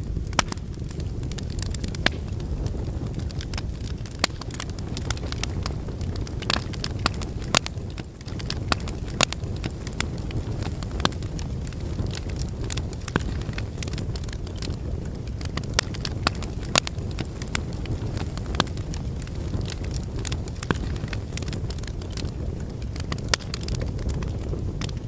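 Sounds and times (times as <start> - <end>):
flames rumbling: 0.0 - 25.0
logs crackling and popping: 0.0 - 25.0.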